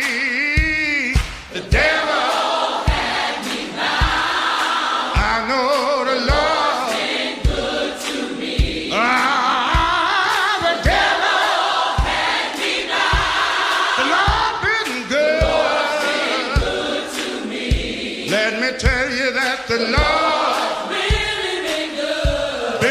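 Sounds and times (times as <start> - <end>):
choir singing gospel: 0.0 - 22.9
steady drum beat: 0.0 - 22.9.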